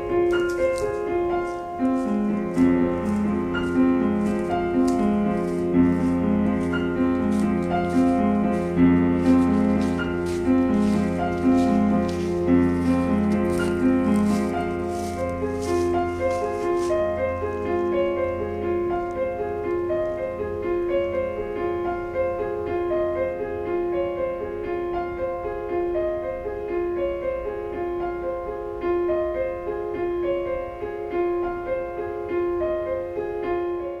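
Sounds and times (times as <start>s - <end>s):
solo piano: 0.0s - 34.0s.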